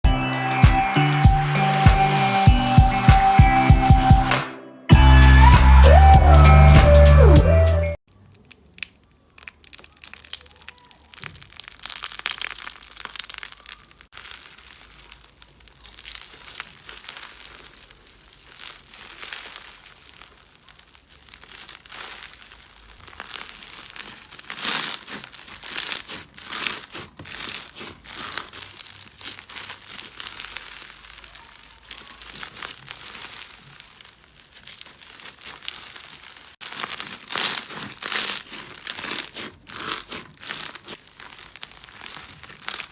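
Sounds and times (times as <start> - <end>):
slime squeezed wet crackles: 8.1 - 42.9.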